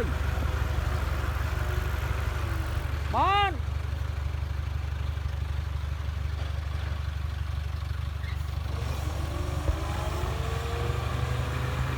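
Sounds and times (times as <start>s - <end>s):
diesel engine droning: 0.0s - 11.9s.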